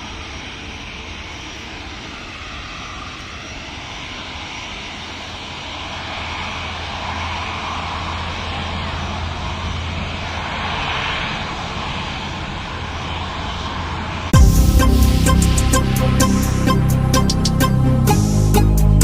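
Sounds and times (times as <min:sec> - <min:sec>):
aeroplane engines running: 0:00.0 - 0:19.0.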